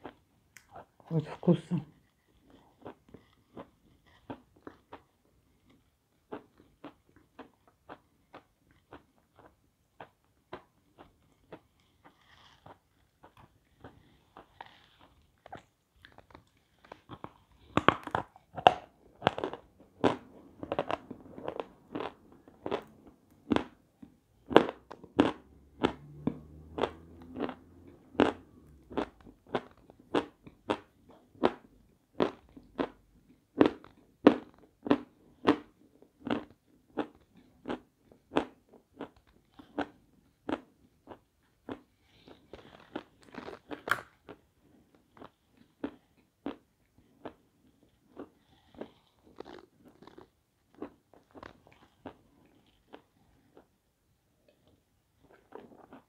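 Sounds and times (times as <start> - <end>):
chewing crunchy chalk: 2.1 - 33.0, 33.6 - 53.7.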